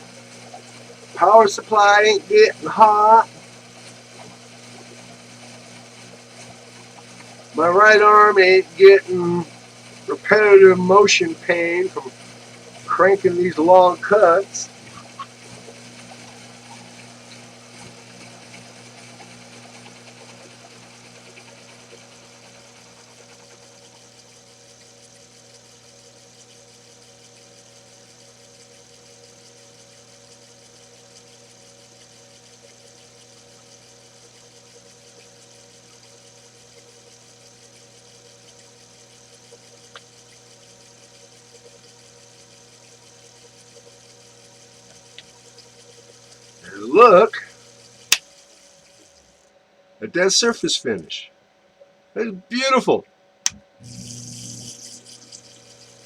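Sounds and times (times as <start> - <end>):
metal lathe humming: 0.0 - 49.5, 53.5 - 56.0.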